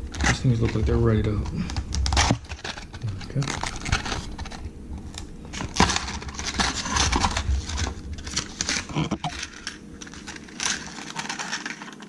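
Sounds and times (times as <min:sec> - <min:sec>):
packaging crinkling and rustling: 0:00.0 - 0:12.0
packaging clicks: 0:00.1 - 0:12.0.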